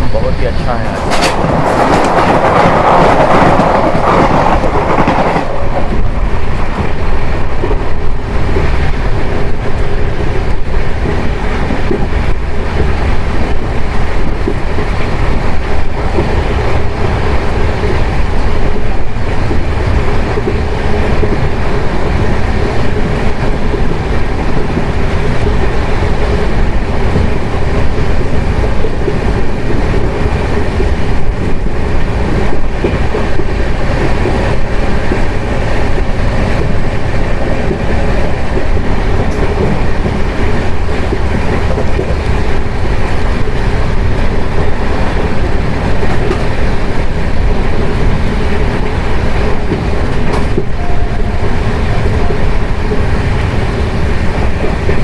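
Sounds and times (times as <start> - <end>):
train coaches rumbling: 0.0 - 55.0
wheels clacking over rail joints: 0.0 - 55.0.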